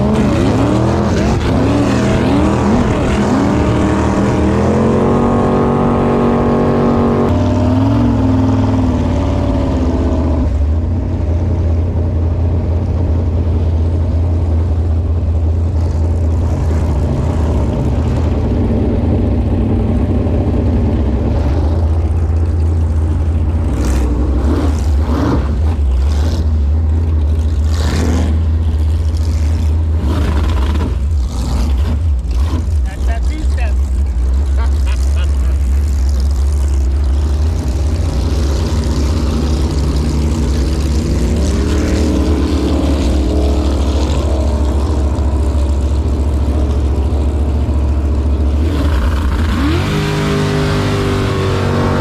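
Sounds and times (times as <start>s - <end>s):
boat engine deep drone: 0.0s - 52.0s
higher engine tone: 0.0s - 52.0s.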